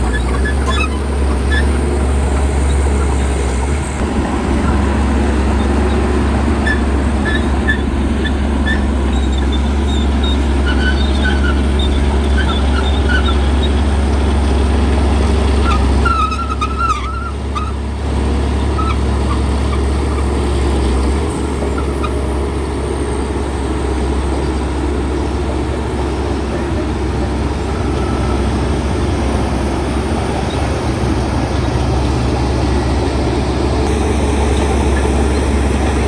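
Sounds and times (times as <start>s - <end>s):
bulldozer diesel engine droning: 0.0s - 36.0s.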